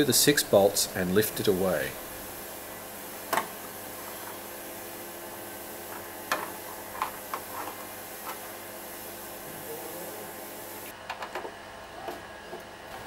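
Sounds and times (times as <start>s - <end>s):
steady hiss: 0.0s - 10.9s.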